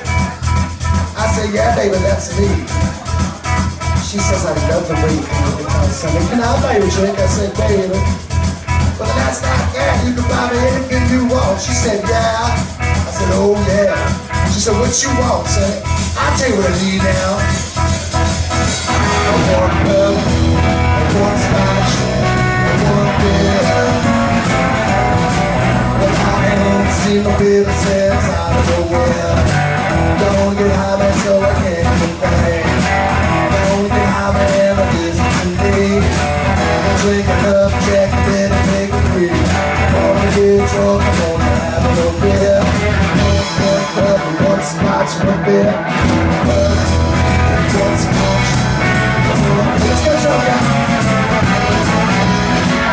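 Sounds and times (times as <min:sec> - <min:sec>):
bass guitar: 0:00.0 - 0:52.9
drum kit: 0:00.0 - 0:52.9
electric guitar: 0:00.0 - 0:52.9.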